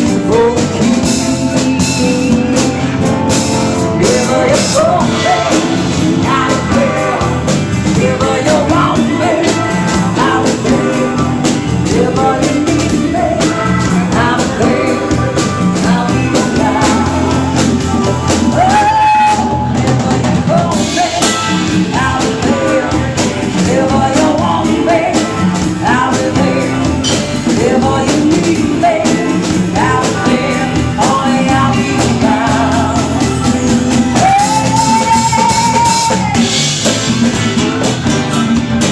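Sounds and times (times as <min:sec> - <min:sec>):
person singing: 0:00.0 - 0:37.3
rock drums and guitar: 0:00.0 - 0:38.9.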